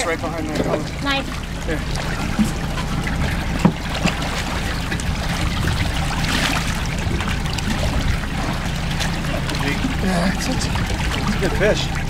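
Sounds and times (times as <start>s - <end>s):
outboard engine idling: 0.0s - 12.0s
water splashing: 0.0s - 12.0s.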